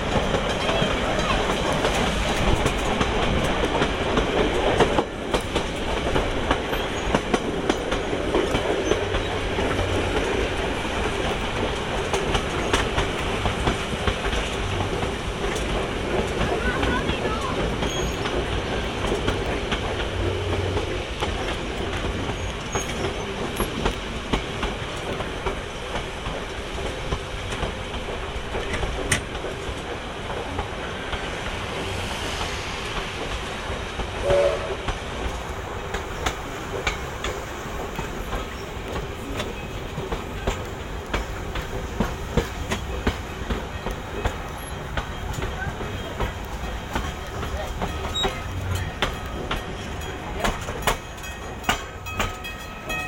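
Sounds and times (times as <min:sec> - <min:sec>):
wheels clicking over rail joints: 0:00.0 - 0:31.7, 0:34.8 - 0:53.0
train running rumble: 0:00.0 - 0:53.0.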